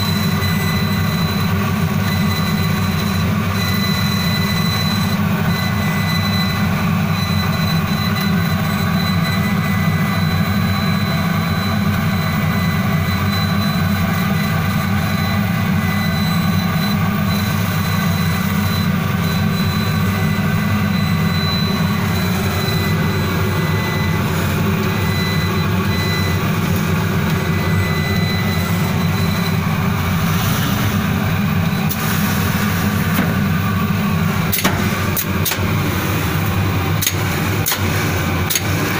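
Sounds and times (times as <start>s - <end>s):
laser cutter machine drone: 0.0s - 38.9s.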